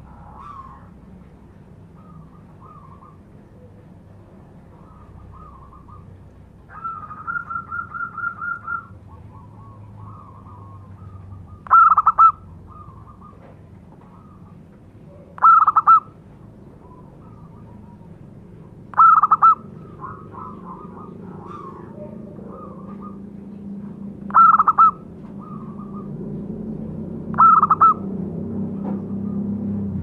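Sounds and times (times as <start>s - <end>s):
dove cooing: 0.0s - 1.0s, 1.9s - 3.8s, 4.6s - 16.2s, 16.8s - 23.7s, 24.3s - 26.2s, 27.3s - 28.1s.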